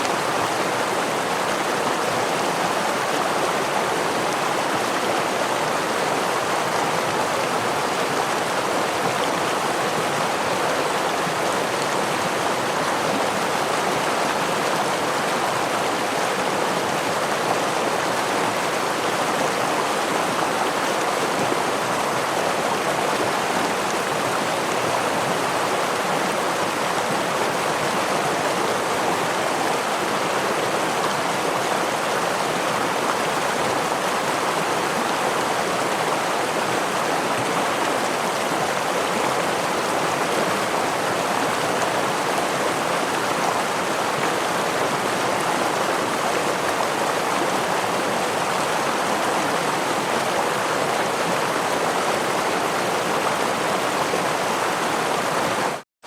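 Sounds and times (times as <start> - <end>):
stream water over small waterfall: 0.0 - 55.9.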